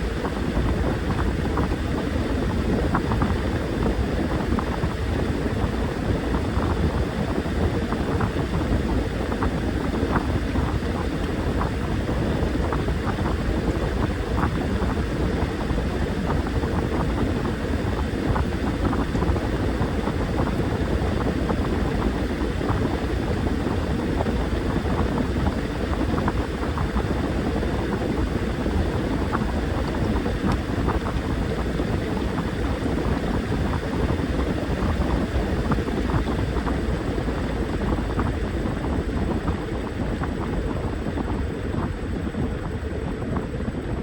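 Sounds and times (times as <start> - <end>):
washing machine churning laundry: 0.0 - 44.0.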